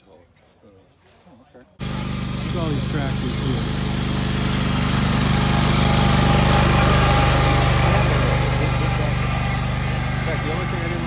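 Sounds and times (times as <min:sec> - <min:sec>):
garden tractor engine running: 0:01.8 - 0:11.0.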